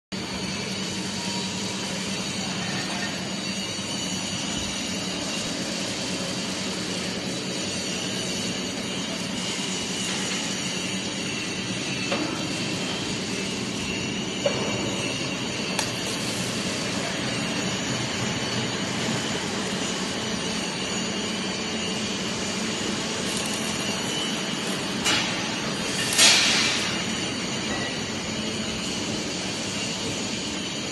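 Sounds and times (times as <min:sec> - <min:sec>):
machinery high whine: 0:00.1 - 0:30.9.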